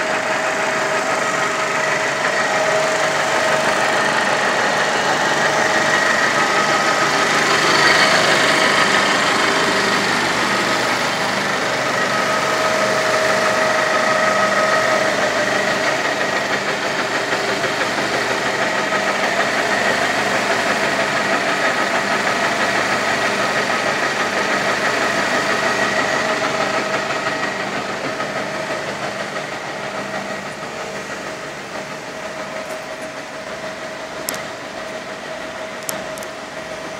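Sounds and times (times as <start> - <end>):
lathe running: 0.0 - 36.9
lathe whining tones: 0.0 - 36.9.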